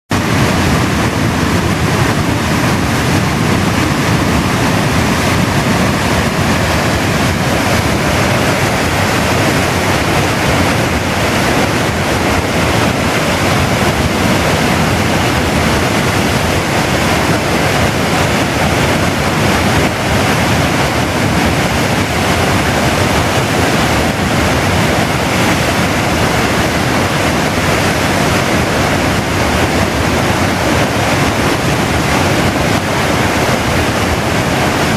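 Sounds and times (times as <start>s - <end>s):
river rushing over a weir: 0.1s - 34.9s.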